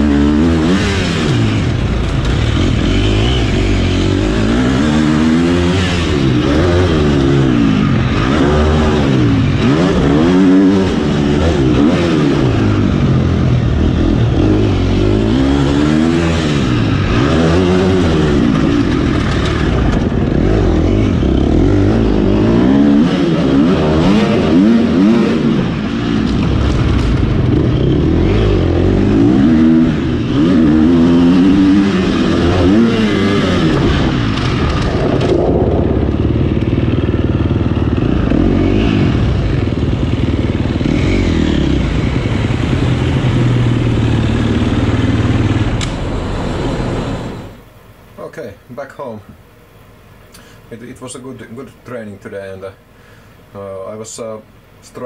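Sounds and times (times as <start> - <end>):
dirt bike engine revving: 0.0 - 47.7.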